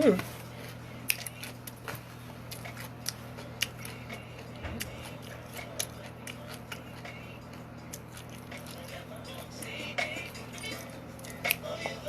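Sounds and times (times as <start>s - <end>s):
steady low hum: 0.0s - 12.0s
person chewing food: 0.4s - 12.0s.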